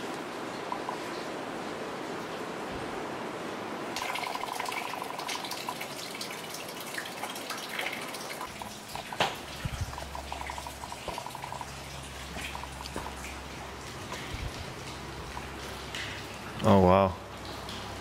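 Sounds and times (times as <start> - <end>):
rainwater dripping and pattering: 0.0 - 18.0.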